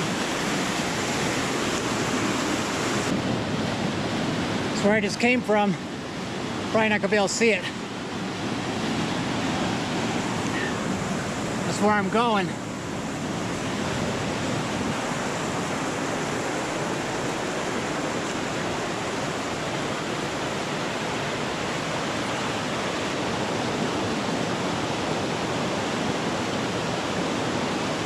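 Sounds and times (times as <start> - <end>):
creek rushing over rocks: 0.0 - 28.0.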